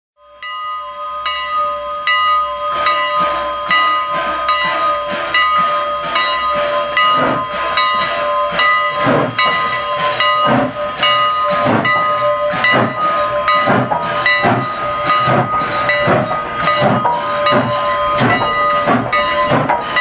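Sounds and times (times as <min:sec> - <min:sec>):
steam locomotive exhaust chuffs: 0:00.2 - 0:20.0
steam hissing: 0:00.3 - 0:20.0.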